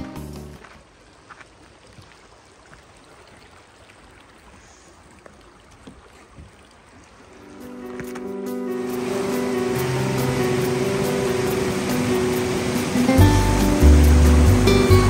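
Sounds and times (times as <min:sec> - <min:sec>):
creek trickling: 0:00.2 - 0:15.0.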